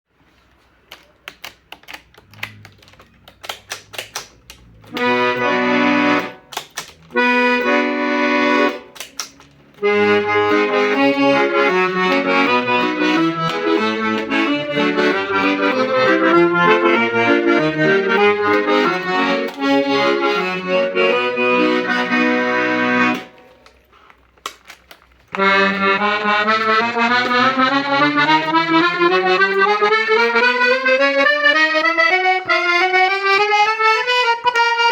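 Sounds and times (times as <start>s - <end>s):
accordion key and bellows clicks: 0.6s - 34.9s
accordion playing: 0.9s - 24.0s, 25.2s - 34.9s.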